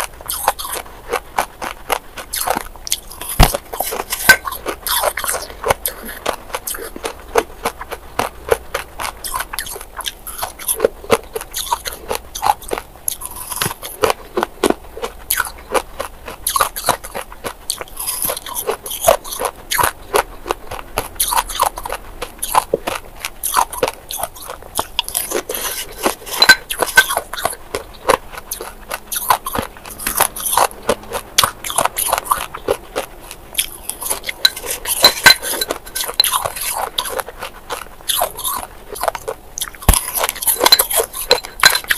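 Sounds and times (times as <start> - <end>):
chewing crushed ice: 0.0 - 41.9.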